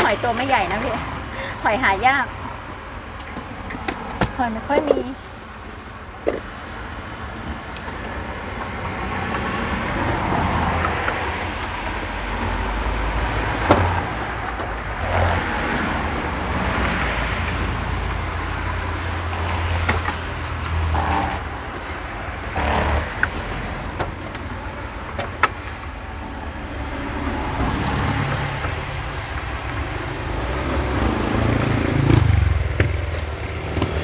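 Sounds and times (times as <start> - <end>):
road traffic passing: 0.0 - 34.0.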